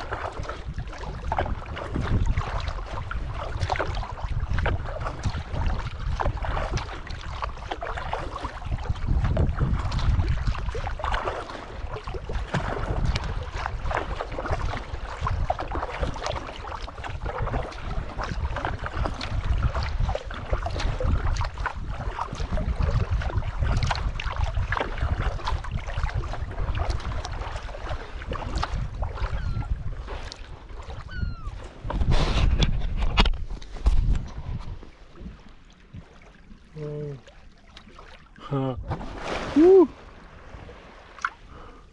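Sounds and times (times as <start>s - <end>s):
wind buffeting microphone: 0.0s - 36.9s
water lapping against kayak hull: 0.0s - 41.9s.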